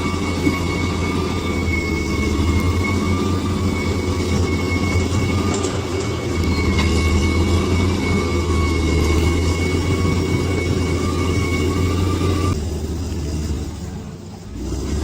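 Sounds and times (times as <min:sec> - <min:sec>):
thin high whine: 0:00.0 - 0:14.5
bulldozer diesel engine running: 0:00.0 - 0:15.0.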